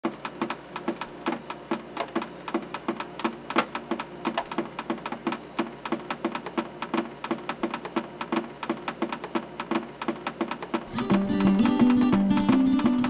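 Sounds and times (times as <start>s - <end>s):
film projector clattering: 0.0s - 13.0s
regular knock: 0.0s - 13.0s
steady high hiss: 0.0s - 13.0s.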